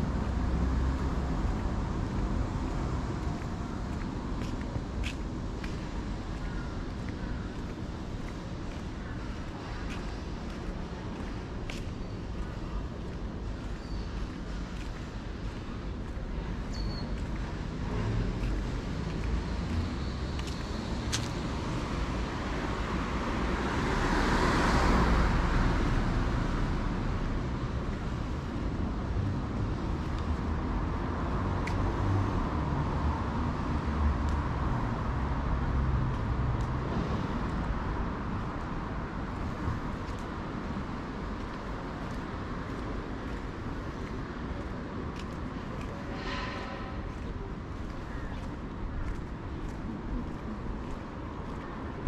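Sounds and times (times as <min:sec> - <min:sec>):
cars passing: 0:00.0 - 0:52.0.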